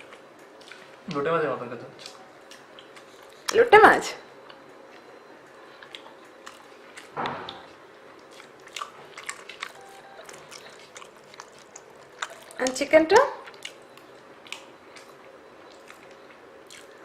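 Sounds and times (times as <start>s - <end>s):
person chewing food: 0.0s - 1.2s, 1.9s - 3.6s, 4.4s - 12.8s, 13.4s - 17.0s.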